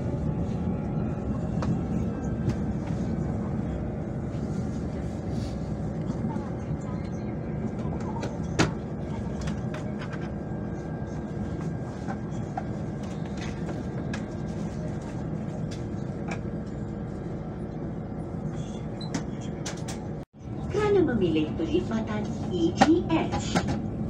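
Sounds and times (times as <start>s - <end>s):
electric train rumble inside carriage: 0.0s - 24.0s.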